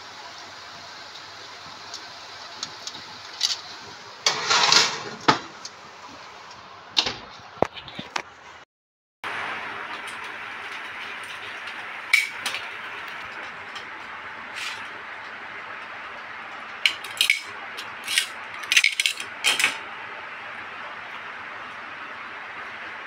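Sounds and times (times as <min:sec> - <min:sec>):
oven hissing: 0:00.0 - 0:07.7, 0:09.3 - 0:23.0.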